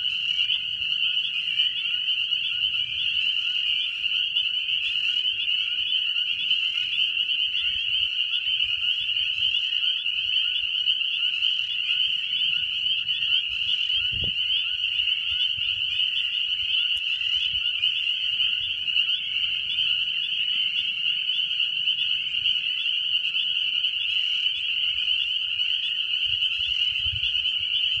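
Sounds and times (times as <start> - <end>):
chorus of frogs calling: 0.0 - 28.0.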